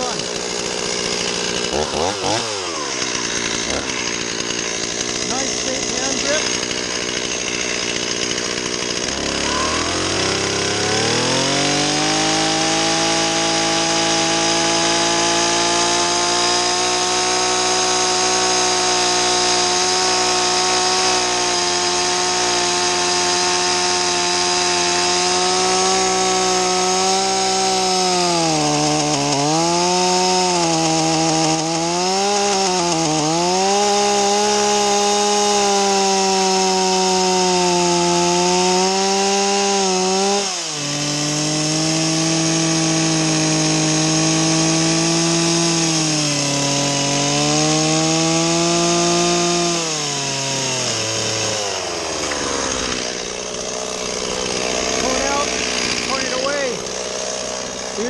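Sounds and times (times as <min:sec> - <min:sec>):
chainsaw cutting into log: 0:00.0 - 0:58.0.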